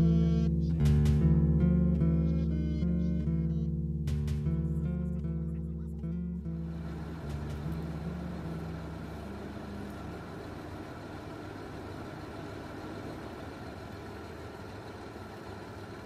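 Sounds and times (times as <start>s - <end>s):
music held notes: 0.0s - 12.9s
car engine idling: 0.0s - 16.0s.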